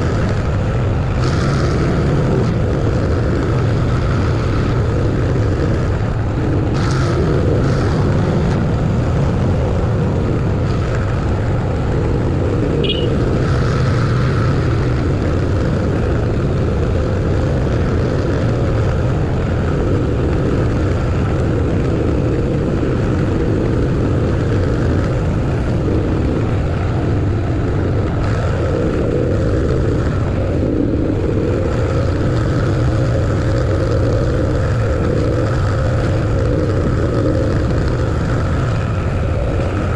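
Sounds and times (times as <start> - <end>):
vehicle engine and tyre noise: 0.0 - 39.9.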